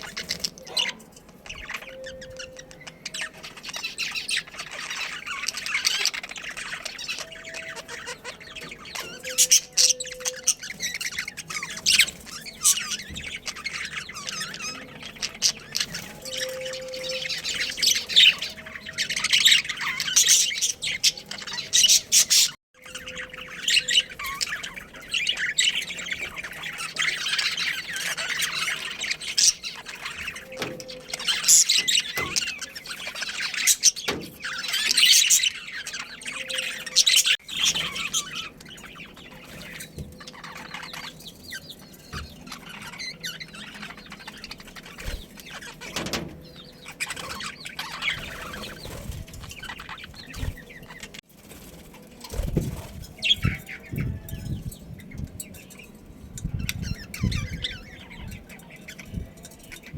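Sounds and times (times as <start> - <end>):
budgerigars chirping: 0.0 - 51.2, 52.2 - 59.9.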